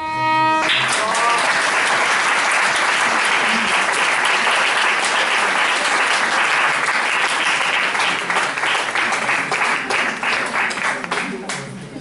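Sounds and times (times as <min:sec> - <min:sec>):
audience applauding: 0:00.6 - 0:11.8.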